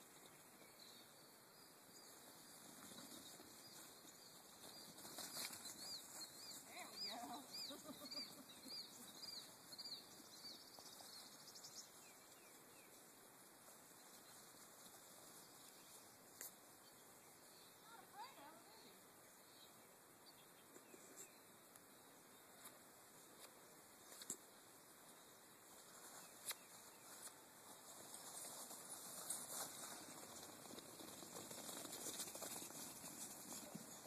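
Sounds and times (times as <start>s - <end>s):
distant songbird chirping: 0.0s - 34.0s.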